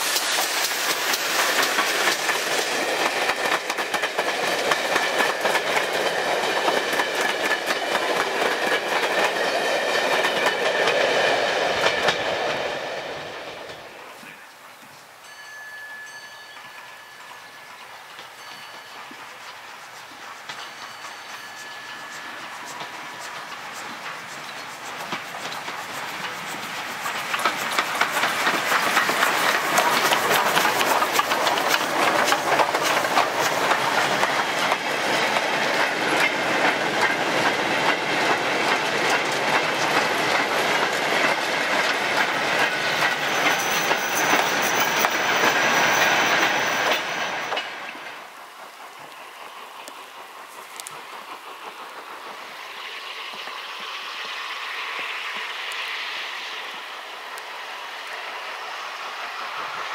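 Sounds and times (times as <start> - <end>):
train wheels clattering on rails: 0.0 - 14.4, 15.3 - 59.9
distant train: 0.0 - 59.9.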